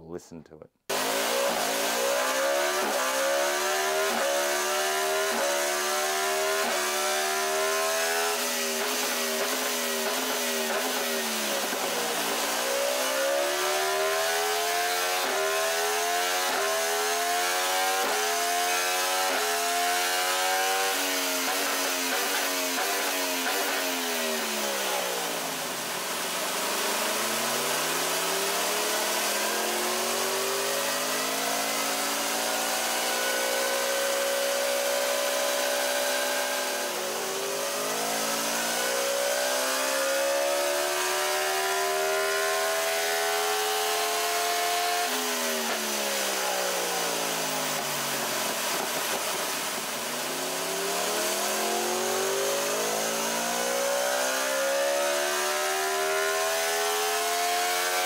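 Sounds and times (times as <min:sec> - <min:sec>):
motorcycle engine revving on dyno: 0:00.9 - 0:58.0.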